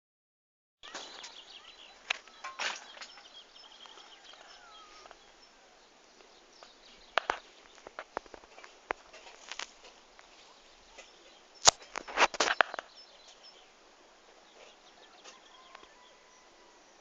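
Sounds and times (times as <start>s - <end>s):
songbirds chirping: 0.8s - 17.0s.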